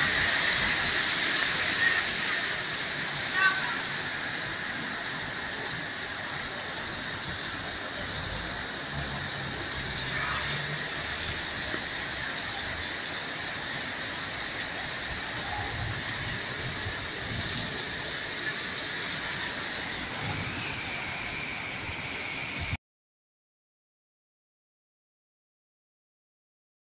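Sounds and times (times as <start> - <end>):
heavy rain pouring: 0.0 - 22.8.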